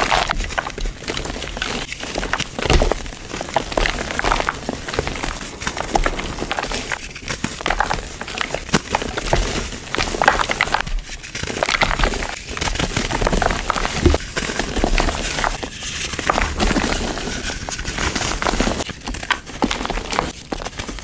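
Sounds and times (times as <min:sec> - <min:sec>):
crumbly material crunching: 0:00.0 - 0:21.0.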